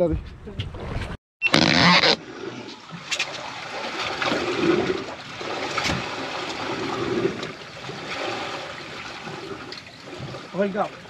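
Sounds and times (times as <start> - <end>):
water lapping against boat hull: 1.8 - 11.0.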